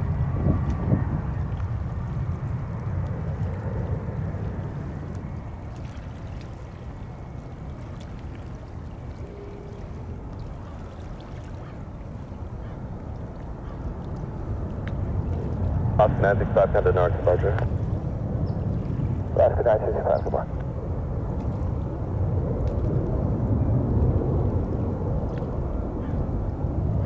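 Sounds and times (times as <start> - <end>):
distant jet engine rumble: 0.0 - 27.0.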